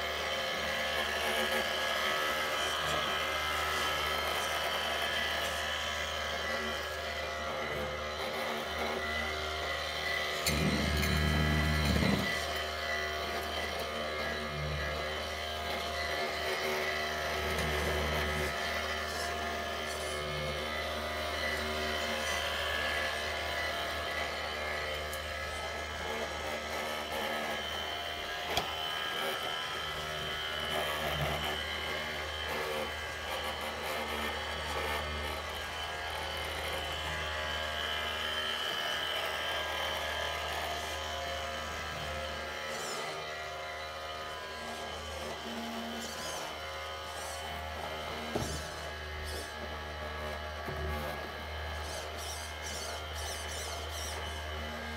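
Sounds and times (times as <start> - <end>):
small electric motors whirring: 0.0 - 54.9.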